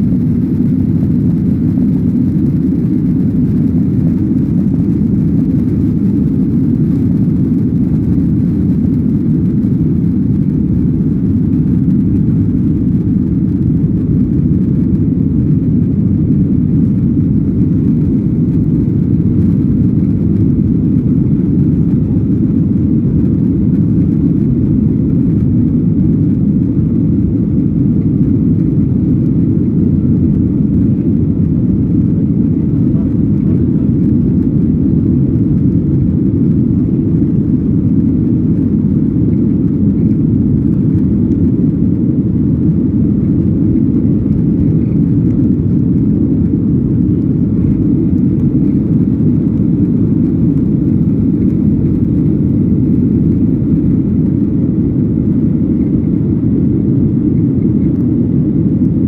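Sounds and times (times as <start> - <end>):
jet engines rumbling: 0.0 - 59.0
rushing air in cabin: 0.0 - 59.0.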